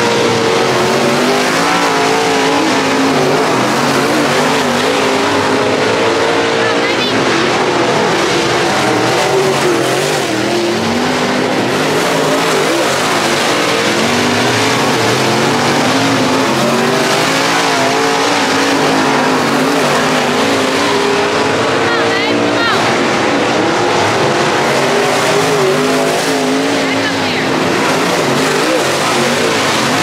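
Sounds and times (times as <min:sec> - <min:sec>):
race car engines running hard: 0:00.0 - 0:30.0.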